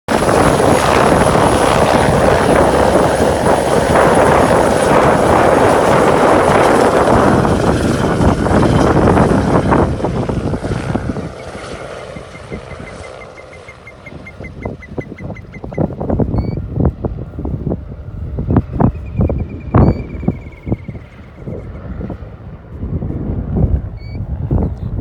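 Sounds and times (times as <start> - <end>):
helicopter rotor and engine: 0.1 - 25.0.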